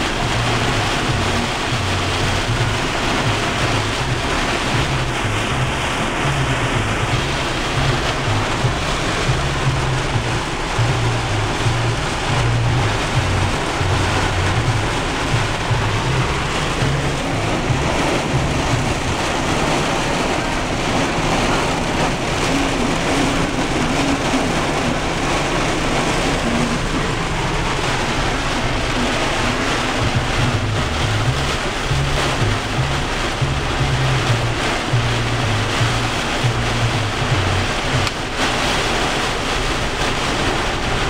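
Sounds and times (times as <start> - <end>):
heavy rain on vehicle: 0.0 - 41.0
strong wind gusts: 0.0 - 41.0.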